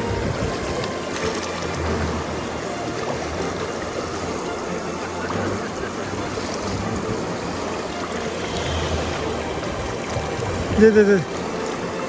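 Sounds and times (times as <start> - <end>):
river water flowing over rocks: 0.0 - 12.0.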